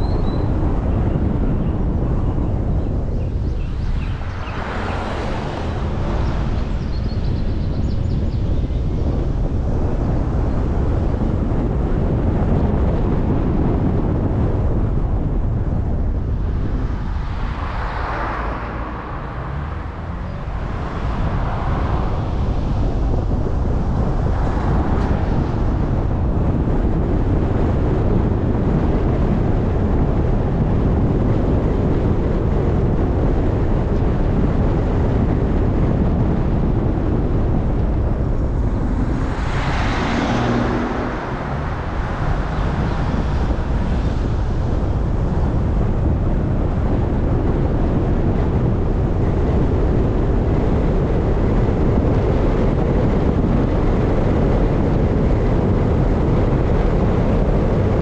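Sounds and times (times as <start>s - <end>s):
low vehicle rumble: 0.0s - 58.0s
wind noise: 0.0s - 58.0s.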